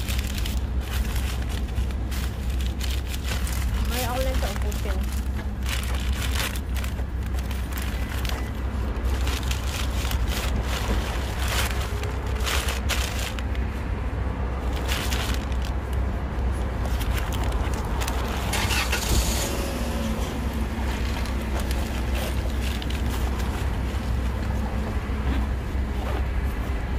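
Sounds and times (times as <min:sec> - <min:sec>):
paper and foil crinkling: 0:00.0 - 0:13.8, 0:14.6 - 0:25.4
low background rumble: 0:00.0 - 0:26.9.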